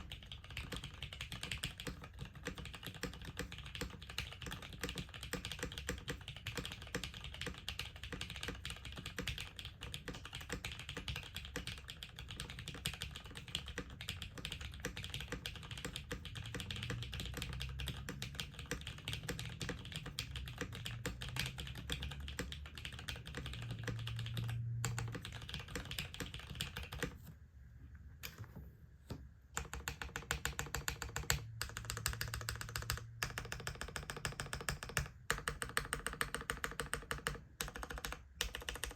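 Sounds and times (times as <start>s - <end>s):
fast typing on mechanical keyboard: 0.0s - 27.2s, 29.6s - 38.9s.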